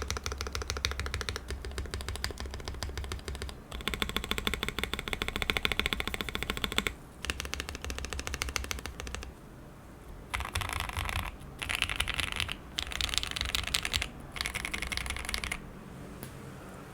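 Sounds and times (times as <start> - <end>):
mechanical keyboard typing: 0.0 - 9.3, 10.3 - 15.6.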